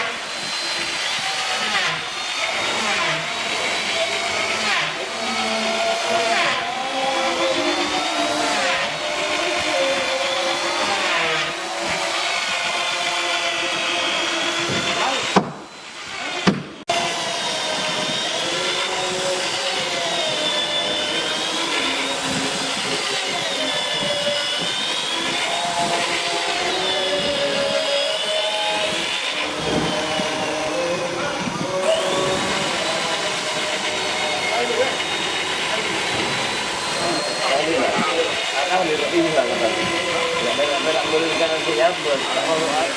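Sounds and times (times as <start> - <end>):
power tool cutting wood: 0.0 - 42.9.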